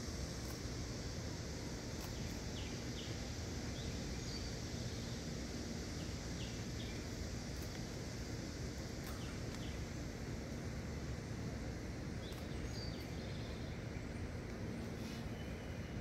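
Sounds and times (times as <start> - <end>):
constant low rumble: 0.0 - 16.0.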